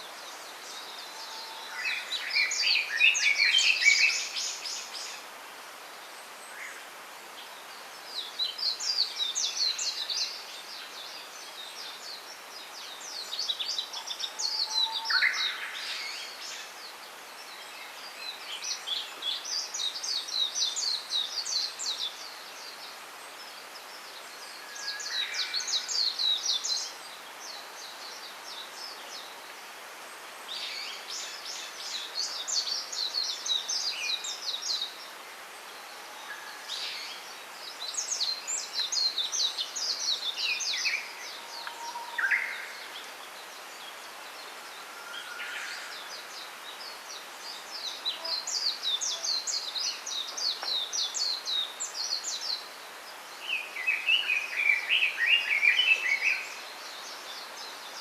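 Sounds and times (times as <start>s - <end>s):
outdoor background hiss: 0.0s - 58.0s
songbird chirping: 0.0s - 58.0s.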